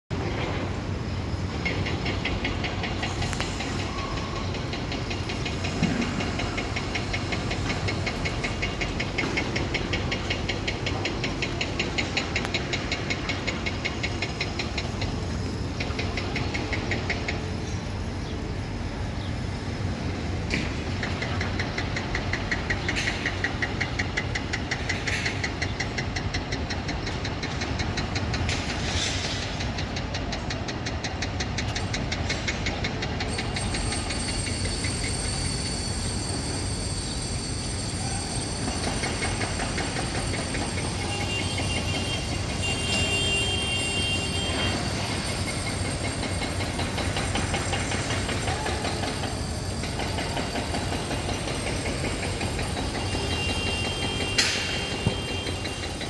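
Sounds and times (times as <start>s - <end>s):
heavy engines rumbling: 0.1s - 56.0s.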